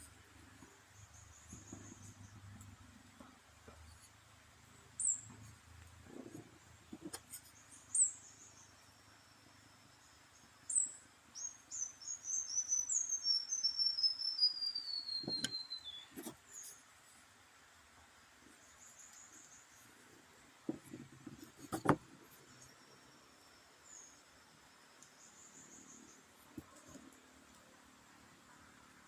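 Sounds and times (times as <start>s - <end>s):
small bird chirping: 0.0s - 2.9s, 3.7s - 16.9s, 18.5s - 20.1s, 20.8s - 27.7s.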